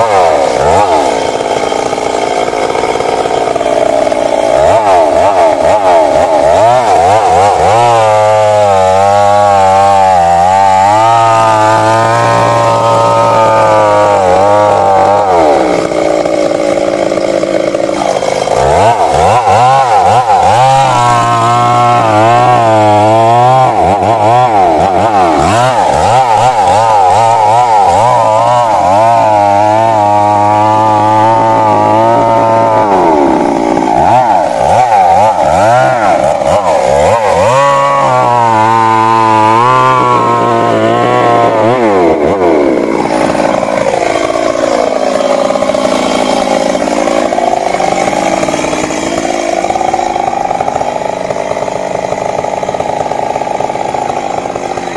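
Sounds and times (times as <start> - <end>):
chainsaw cutting into wood: 0.0 - 54.9.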